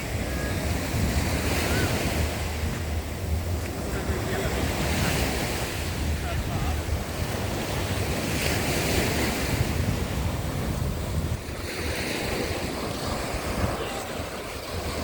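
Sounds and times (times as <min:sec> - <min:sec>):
waves washing onto beach: 0:00.0 - 0:15.0
wind buffeting microphone: 0:00.0 - 0:15.0.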